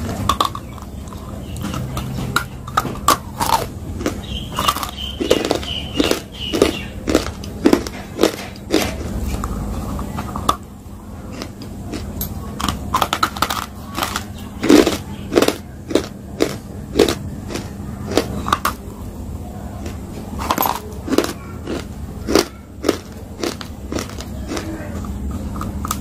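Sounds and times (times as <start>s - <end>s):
chalk crunching while chewed: 0.0s - 18.9s, 19.7s - 26.0s
low steady hum: 0.0s - 26.0s.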